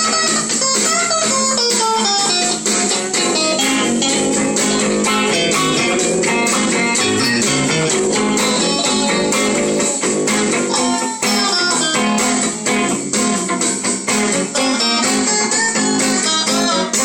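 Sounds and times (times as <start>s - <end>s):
blues-rock guitars jamming: 0.0s - 17.0s.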